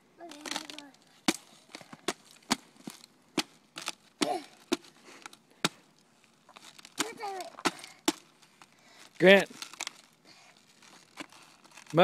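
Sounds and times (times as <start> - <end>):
thin ice cracking underfoot: 0.3 - 12.0.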